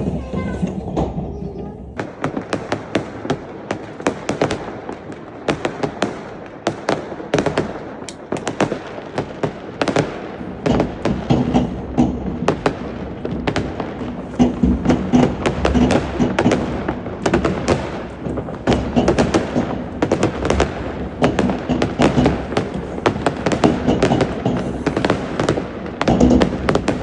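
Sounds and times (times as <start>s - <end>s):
fireworks and firecrackers banging: 0.0s - 27.0s.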